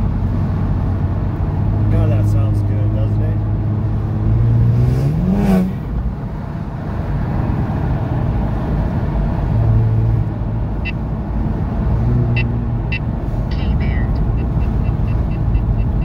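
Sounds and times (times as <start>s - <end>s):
car exhaust and engine drone: 0.0s - 16.0s
road noise: 0.0s - 16.0s.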